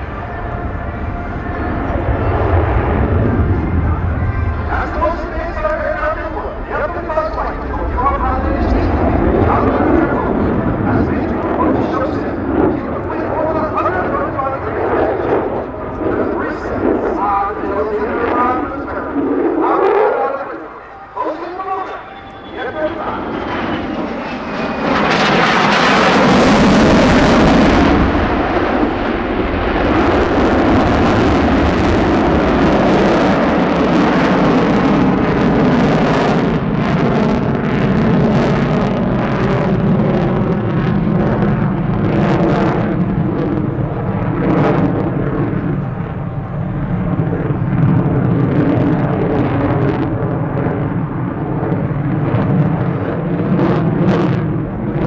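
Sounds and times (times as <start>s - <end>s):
fighter jet engine roar: 0.0s - 55.0s.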